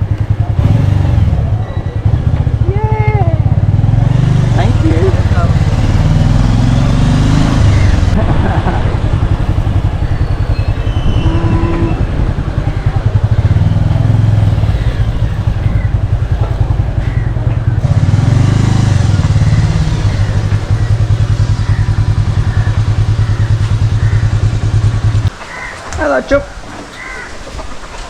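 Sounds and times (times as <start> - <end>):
motorbike engine running: 0.0 - 25.7.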